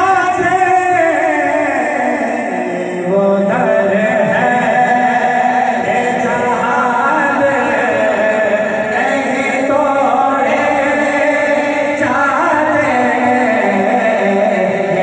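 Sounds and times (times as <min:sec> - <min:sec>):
men singing a devotional chant: 0:00.0 - 0:15.0.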